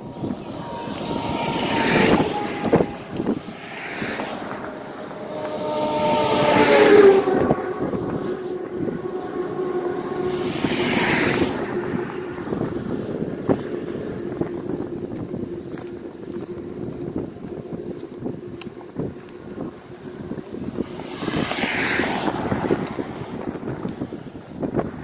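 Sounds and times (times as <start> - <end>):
road traffic engine hum: 0.0 - 25.0
vehicle passing: 0.0 - 25.0
wind buffeting microphone: 0.0 - 25.0.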